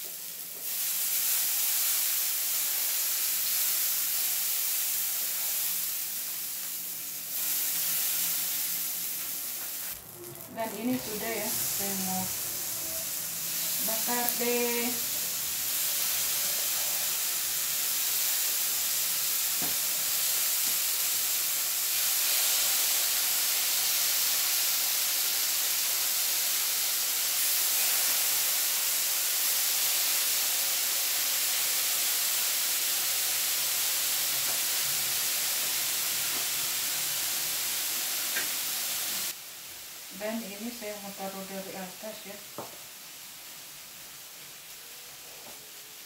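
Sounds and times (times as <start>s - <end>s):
meat sizzling on a griddle: 0.0s - 46.0s.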